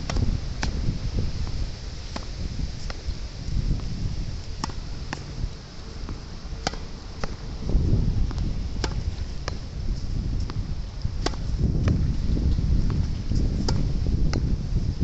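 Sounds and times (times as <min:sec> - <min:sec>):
tennis ball hitting racket and wall: 0:00.0 - 0:14.6
wind buffeting microphone: 0:00.0 - 0:15.0.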